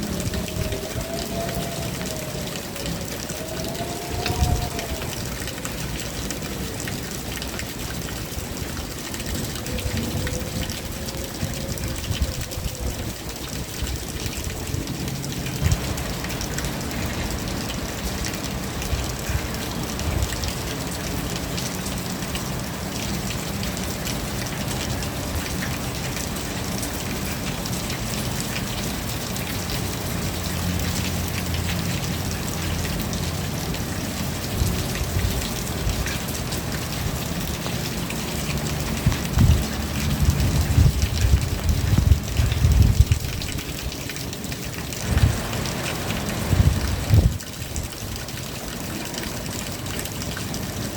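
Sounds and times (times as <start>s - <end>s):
raindrop patter: 0.0s - 50.9s
steady rain hiss: 0.0s - 50.9s.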